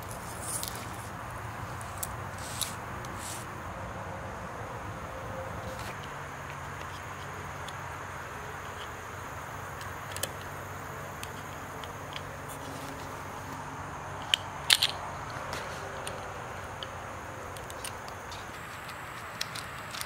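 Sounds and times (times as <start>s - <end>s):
background hum and hiss: 0.0s - 20.0s.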